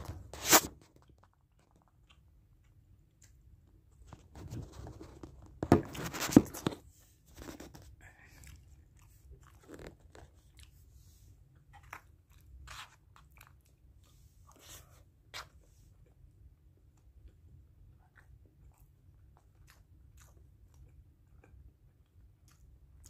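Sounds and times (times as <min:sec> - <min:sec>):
chewing: 0:00.9 - 0:04.4, 0:07.4 - 0:23.0.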